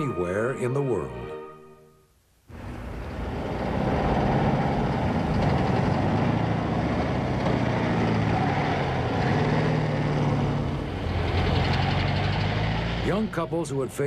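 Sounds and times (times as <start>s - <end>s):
truck engine running: 2.5s - 14.0s.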